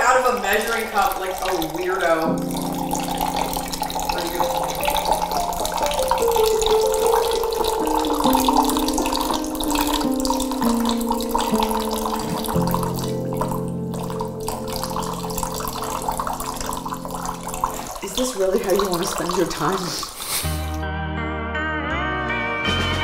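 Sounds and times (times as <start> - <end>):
slow background music: 0.0 - 18.0, 20.5 - 23.0
water pouring into glass: 0.0 - 20.8.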